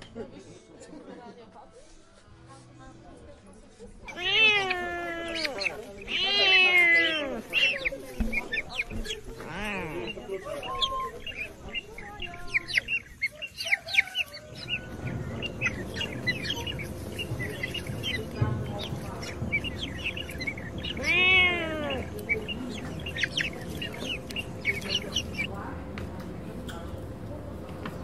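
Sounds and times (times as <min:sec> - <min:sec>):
birds chirping: 0:04.0 - 0:28.0.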